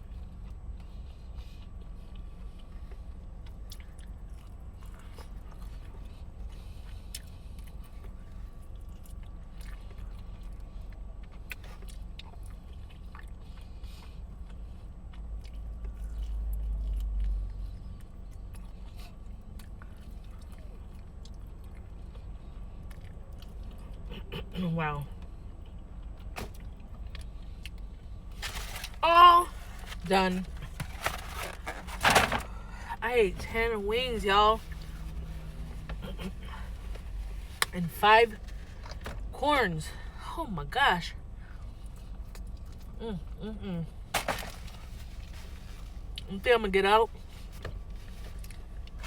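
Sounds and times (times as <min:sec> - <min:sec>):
low hum: 0:00.0 - 0:49.0.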